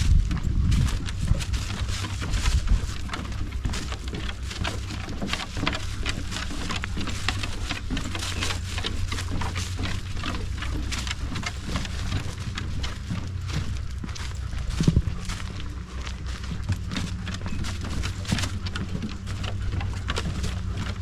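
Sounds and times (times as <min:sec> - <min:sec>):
footsteps crunching on dry ground: 0:00.0 - 0:21.0
steady low rumble: 0:00.0 - 0:21.0.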